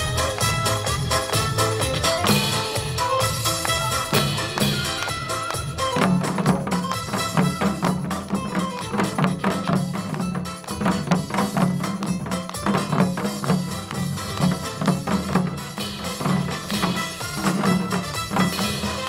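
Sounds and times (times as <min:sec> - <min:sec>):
hourglass drums beaten: 0:00.0 - 0:19.0
upbeat music with steady beat: 0:00.0 - 0:19.0.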